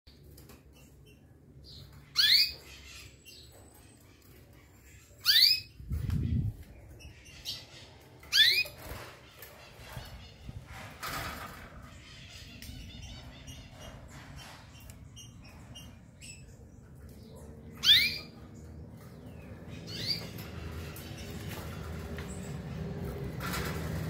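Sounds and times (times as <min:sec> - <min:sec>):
canaries cheeping: 0:00.1 - 0:24.0.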